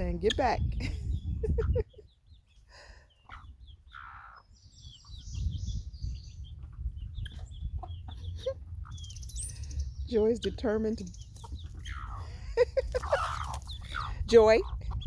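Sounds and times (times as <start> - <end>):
duckling peeping: 0.0 - 15.0.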